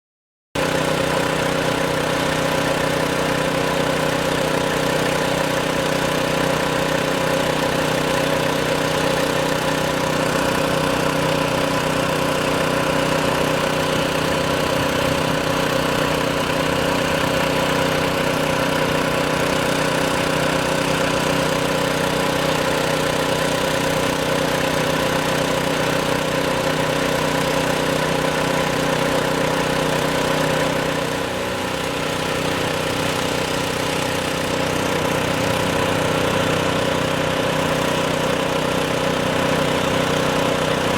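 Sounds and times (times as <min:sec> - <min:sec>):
engine idling: 0:00.6 - 0:40.9.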